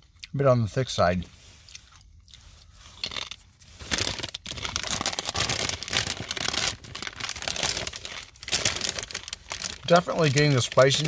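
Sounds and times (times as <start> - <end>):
chip crunching: 1.7 - 11.0.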